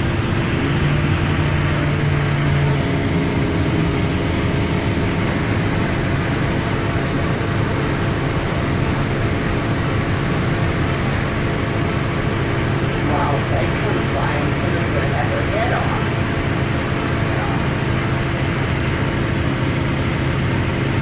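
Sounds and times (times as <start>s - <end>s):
bus engine humming: 0.0s - 21.0s
constant rushing noise: 0.0s - 21.0s.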